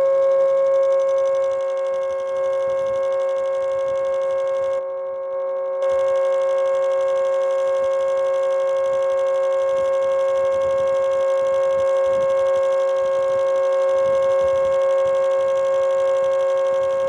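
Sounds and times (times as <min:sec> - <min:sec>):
siren two-tone chord: 0:00.0 - 0:17.0.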